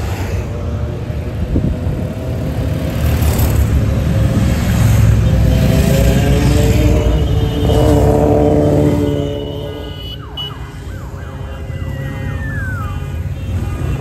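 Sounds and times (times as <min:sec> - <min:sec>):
motorcycle engines rumbling: 0:00.0 - 0:14.0.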